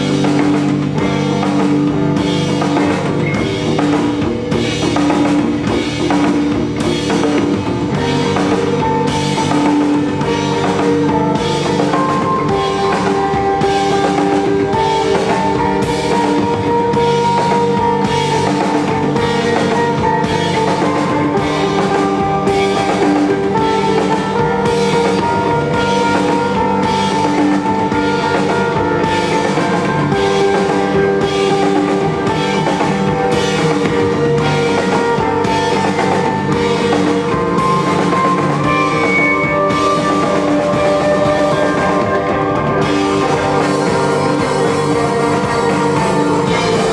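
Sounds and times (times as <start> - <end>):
drum kit beat: 0.0 - 46.9
held guitar notes: 0.0 - 46.9.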